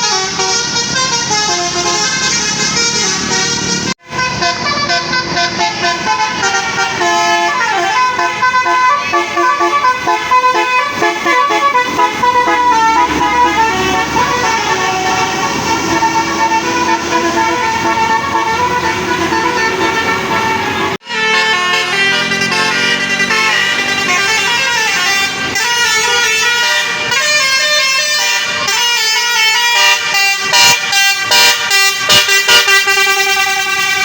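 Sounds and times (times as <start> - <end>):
bus horn playing a tune: 0.0 - 34.0.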